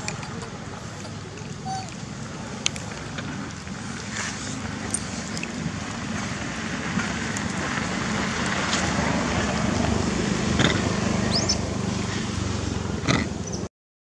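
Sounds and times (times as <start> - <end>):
outdoor rumble and hiss: 0.0 - 13.7.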